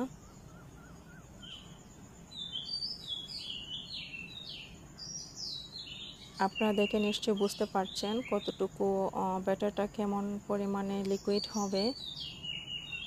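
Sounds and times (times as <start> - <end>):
birds chirping: 0.0 - 13.0
low steady background hiss: 0.0 - 13.0.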